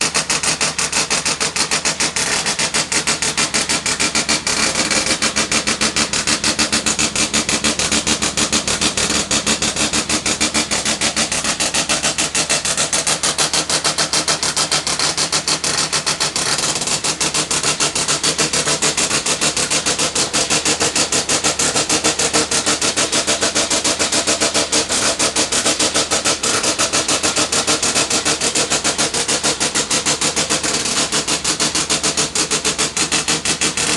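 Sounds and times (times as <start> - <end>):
rally car engine idling: 0.0 - 33.9.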